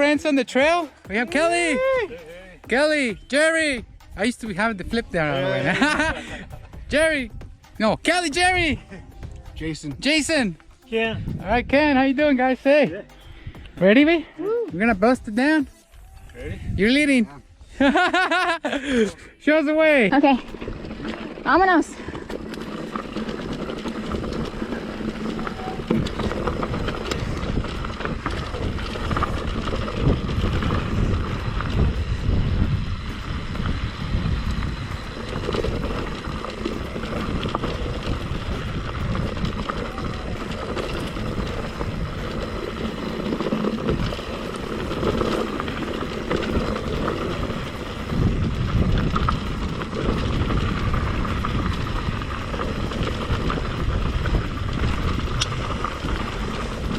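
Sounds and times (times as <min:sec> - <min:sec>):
bike tyres rolling over rock: 0:00.0 - 0:12.0, 0:19.8 - 0:56.9
bike rattling: 0:00.0 - 0:56.9
wind rumbling on microphone: 0:03.0 - 0:12.3, 0:15.0 - 0:17.8, 0:20.3 - 0:56.9.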